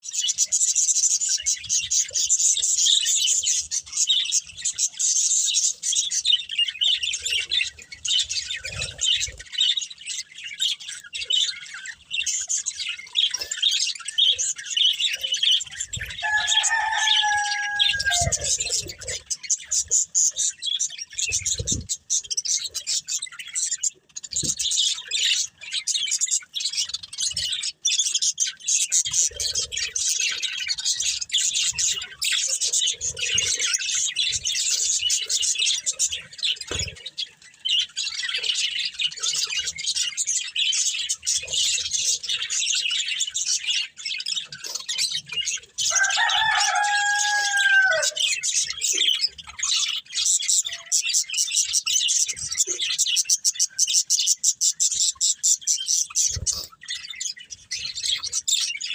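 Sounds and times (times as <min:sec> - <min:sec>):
budgerigars chirping and warbling: 0:00.0 - 0:58.9.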